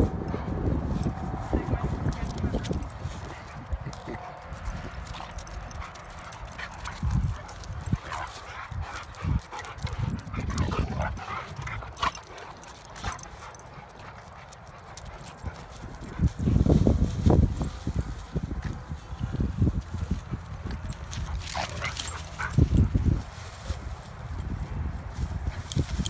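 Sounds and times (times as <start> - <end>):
dog paws pattering and scuffling: 0.0 - 26.0.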